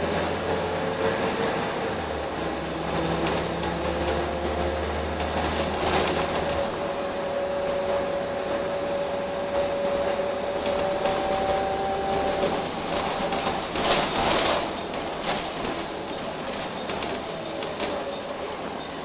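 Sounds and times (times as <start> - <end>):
bus running drone with whine: 0.0 - 19.0.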